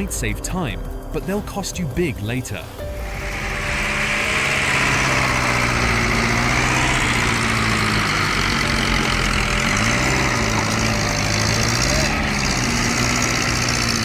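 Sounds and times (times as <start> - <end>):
heavy machine engine running: 2.8 - 14.0.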